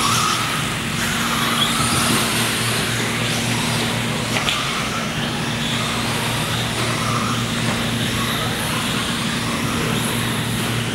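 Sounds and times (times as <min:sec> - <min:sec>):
electric motors whining: 0:00.0 - 0:10.9
steady hum: 0:00.0 - 0:10.9.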